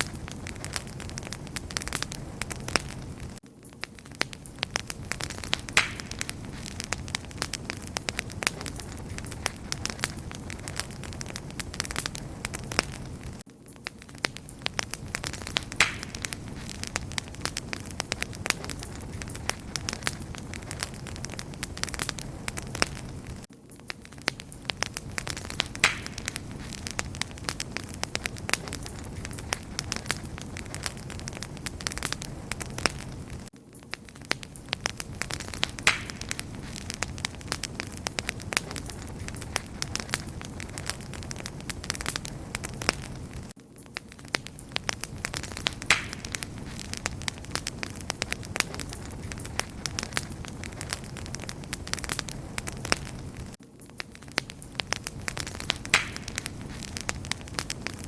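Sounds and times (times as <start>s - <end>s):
rush of flames: 0.0s - 58.0s
wood fire crackling and popping: 0.0s - 58.0s.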